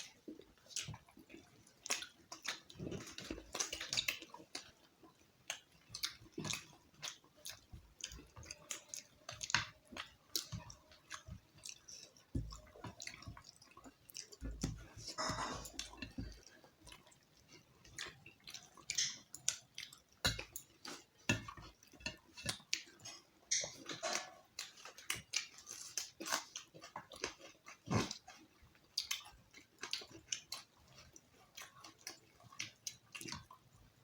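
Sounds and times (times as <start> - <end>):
chewing and wet mouth sounds: 0.0 - 34.0.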